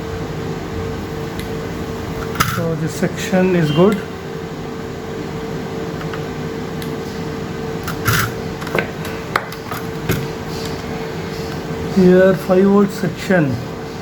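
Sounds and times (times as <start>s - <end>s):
air conditioning hum: 0.0s - 14.0s.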